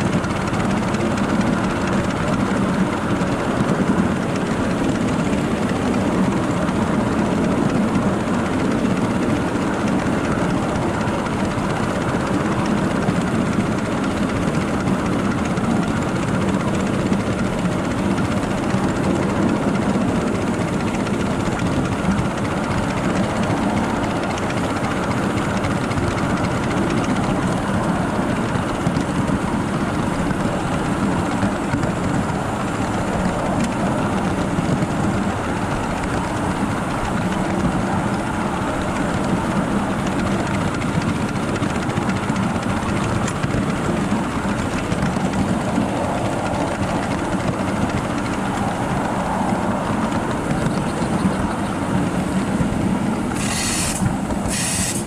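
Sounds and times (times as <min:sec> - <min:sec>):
miniature train wheels rumbling: 0:00.0 - 0:55.0.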